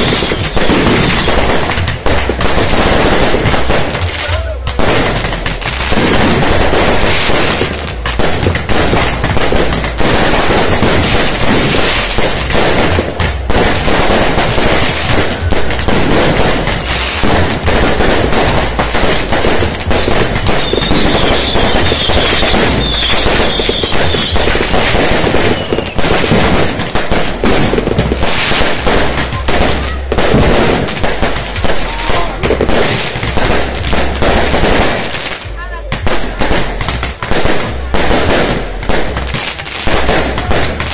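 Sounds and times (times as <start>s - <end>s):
firecrackers banging: 0.0s - 40.9s.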